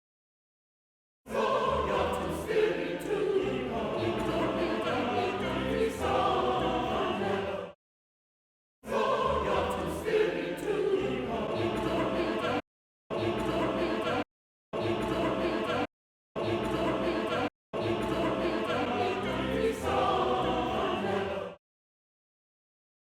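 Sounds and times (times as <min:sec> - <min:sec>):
choir singing: 0:01.3 - 0:07.8, 0:08.8 - 0:21.6.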